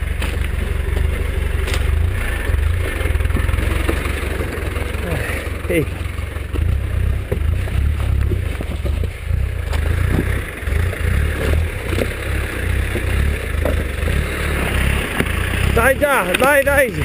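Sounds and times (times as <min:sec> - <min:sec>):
engine running low and uneven: 0:00.0 - 0:17.0.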